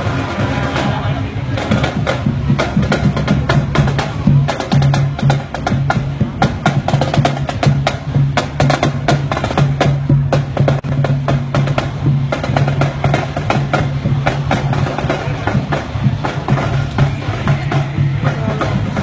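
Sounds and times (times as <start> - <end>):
bass drum beats: 0.0 - 19.0.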